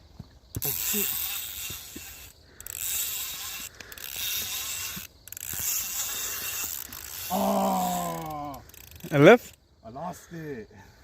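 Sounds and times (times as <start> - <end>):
fishing reel whirring: 0.6 - 9.6.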